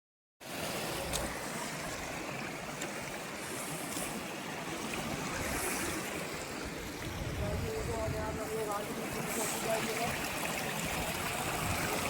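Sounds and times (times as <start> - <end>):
waterfall rushing: 0.5 - 12.0.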